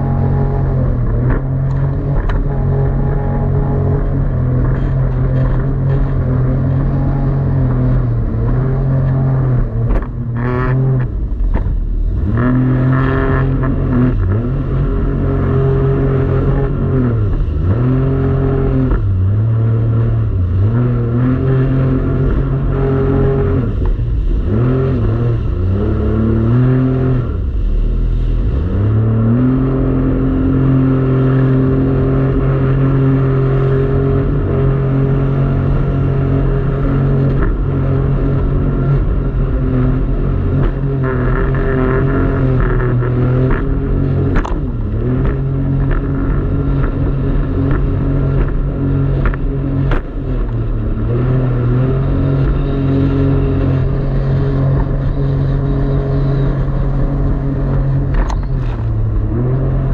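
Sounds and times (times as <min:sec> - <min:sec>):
jet ski engine running: 0:00.0 - 0:59.9.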